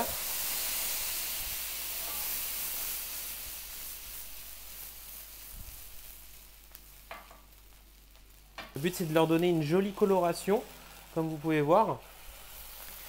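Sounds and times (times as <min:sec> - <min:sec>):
butter sizzling in a frying pan: 0:00.0 - 0:13.0.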